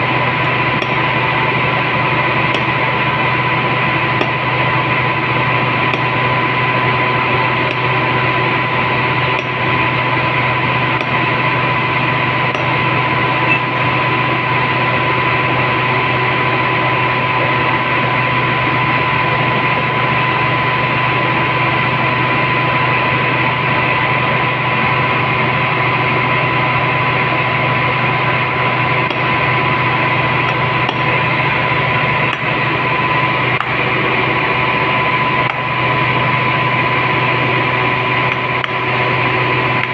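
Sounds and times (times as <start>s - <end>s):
constant high whine: 0.0s - 39.9s.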